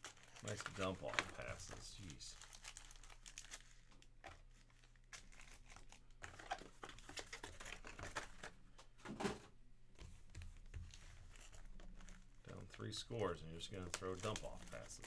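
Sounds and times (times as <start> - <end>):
card packs crinkling: 0.0 - 8.8, 10.8 - 15.0.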